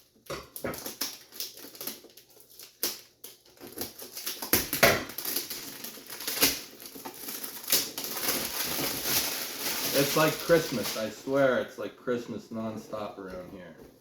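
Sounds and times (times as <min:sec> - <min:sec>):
packaging crinkling and rustling: 0:00.1 - 0:11.6.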